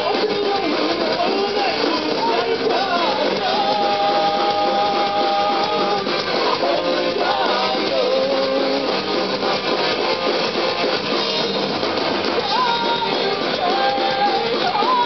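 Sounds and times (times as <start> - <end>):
person singing: 0.0 - 9.4, 11.2 - 15.0
electric guitars: 0.0 - 15.0
punk rock band playing live: 0.0 - 15.0.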